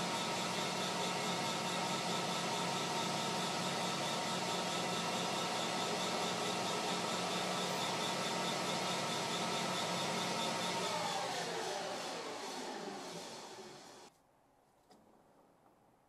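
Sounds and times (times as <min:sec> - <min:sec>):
metal lathe humming: 0:00.0 - 0:14.1.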